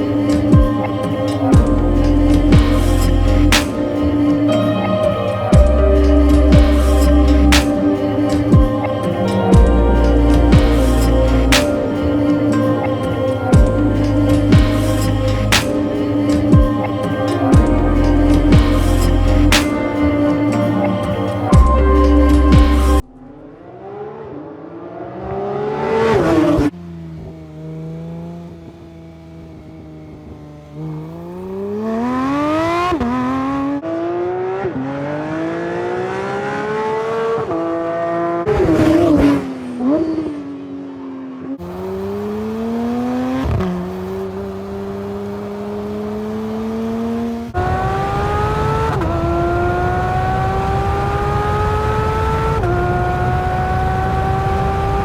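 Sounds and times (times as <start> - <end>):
sports car engine accelerating: 0.0 - 55.0.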